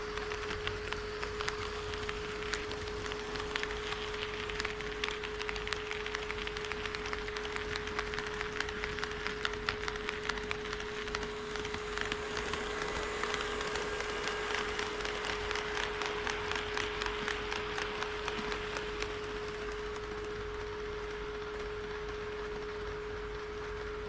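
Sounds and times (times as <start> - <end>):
model train wheels clattering: 0.0 - 23.4
steady high hum: 0.0 - 24.0.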